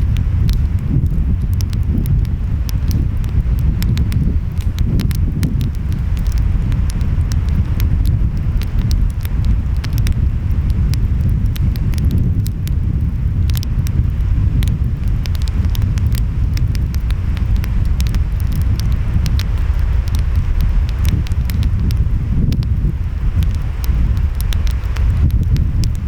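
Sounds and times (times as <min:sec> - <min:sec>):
surf rumble: 0:00.0 - 0:26.0
wind: 0:00.0 - 0:26.0
wood fire crackling and popping: 0:00.0 - 0:26.0.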